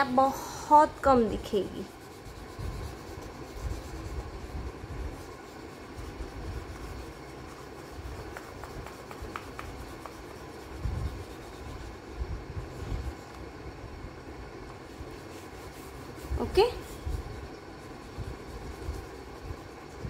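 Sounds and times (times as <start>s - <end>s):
oil pastel rubbing on paper: 0.0s - 13.6s, 14.6s - 20.0s.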